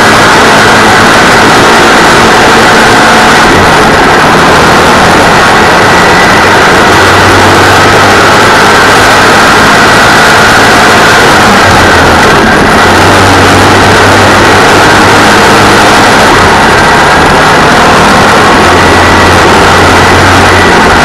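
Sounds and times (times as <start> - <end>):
race car engine pulling hard: 0.0 - 21.0.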